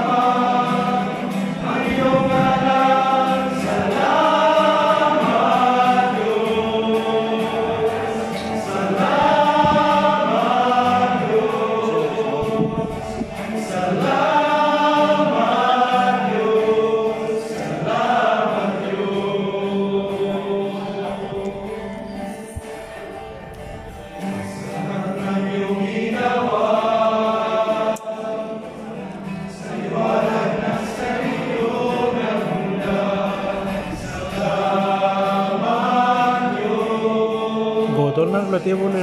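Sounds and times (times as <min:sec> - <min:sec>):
group singing in harmony: 0:00.0 - 0:38.8
acoustic guitar: 0:00.0 - 0:39.0.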